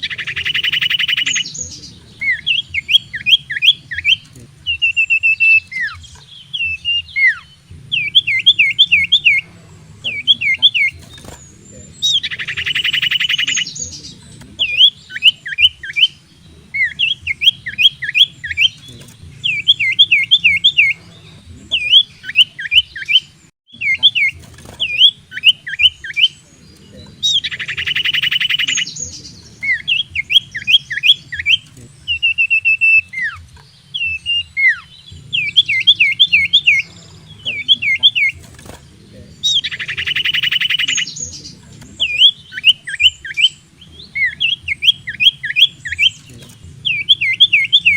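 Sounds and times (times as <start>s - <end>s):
bird harsh rattling trill: 0.0s - 26.4s, 27.2s - 33.1s, 33.8s - 47.9s
bird whistling song: 0.0s - 47.9s.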